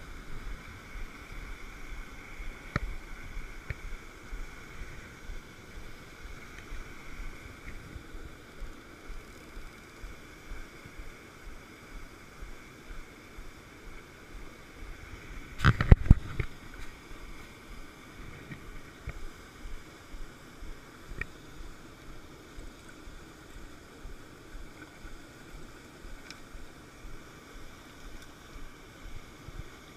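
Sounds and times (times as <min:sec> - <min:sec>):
mountain stream rushing: 0:00.0 - 0:29.9.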